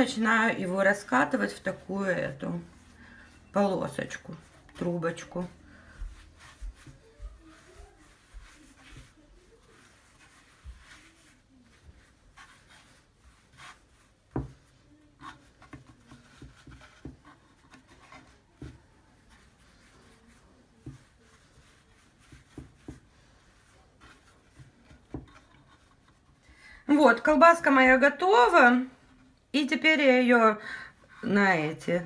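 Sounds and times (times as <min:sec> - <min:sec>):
palms rubbing dough: 0:00.0 - 0:29.4.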